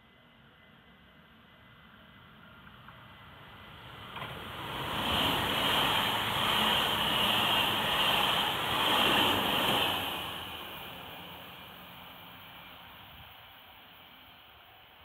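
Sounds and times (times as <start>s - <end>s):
electric train passing: 0.1s - 15.0s.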